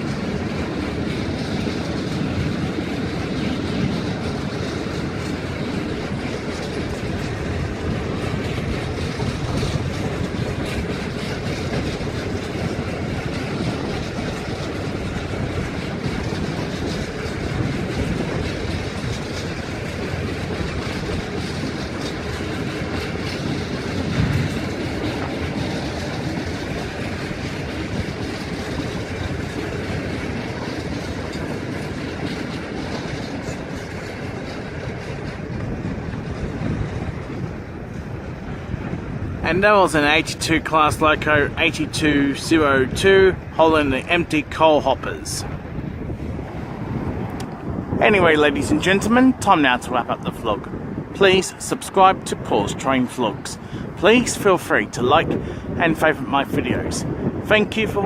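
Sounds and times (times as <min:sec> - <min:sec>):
wheels clicking over rail joints: 0:00.0 - 0:52.8
freight train rolling past: 0:00.0 - 0:58.0.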